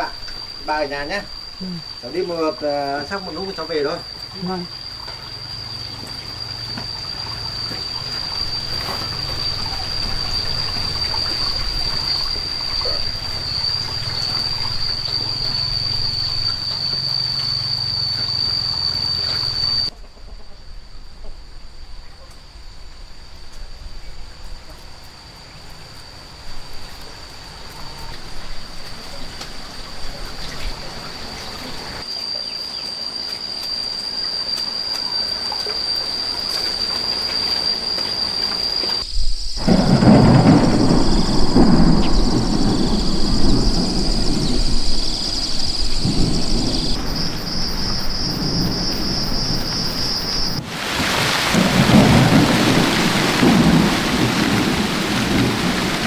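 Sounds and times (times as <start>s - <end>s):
trickling water: 0.0s - 19.9s, 25.2s - 32.2s, 33.1s - 56.0s
steady high-pitched whine: 0.0s - 24.4s, 29.7s - 50.8s.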